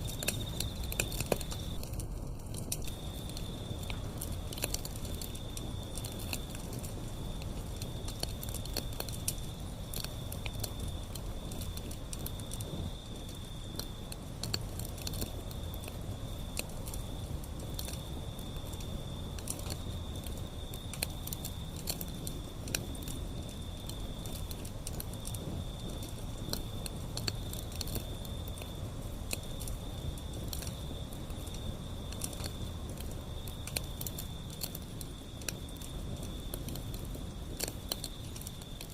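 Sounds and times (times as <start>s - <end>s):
low rumble of flame: 0.0s - 38.9s
wood fire crackling: 0.0s - 38.9s.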